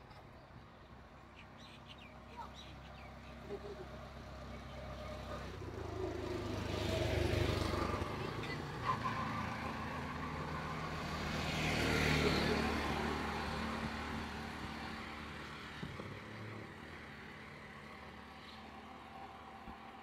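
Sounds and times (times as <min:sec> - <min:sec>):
vehicle passing by: 0:02.0 - 0:20.0.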